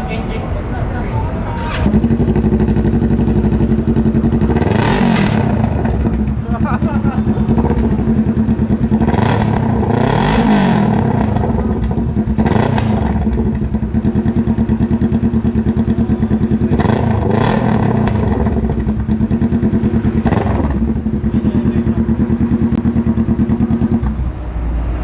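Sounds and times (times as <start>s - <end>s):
motorcycle engine idling and revving: 1.6s - 25.0s.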